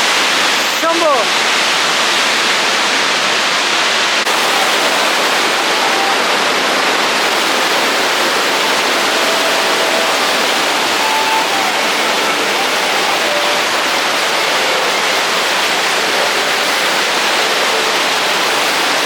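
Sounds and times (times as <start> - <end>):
rushing water roar: 0.0 - 19.0.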